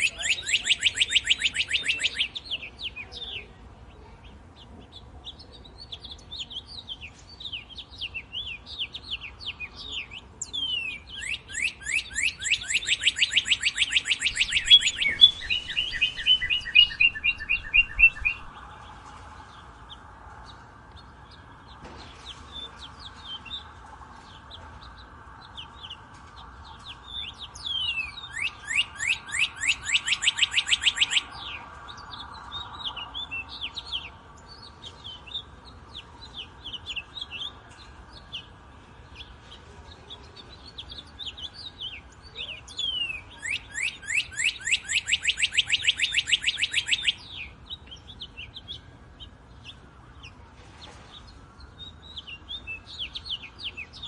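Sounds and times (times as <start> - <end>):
other birds chirping: 0.0 - 54.0
cardinal singing: 7.8 - 51.1.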